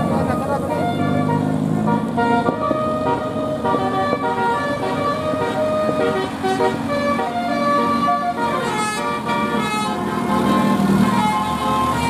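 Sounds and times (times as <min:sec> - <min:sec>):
low vehicle rumble: 0:00.0 - 0:12.0
multi-tone bus horn tune: 0:00.0 - 0:12.0.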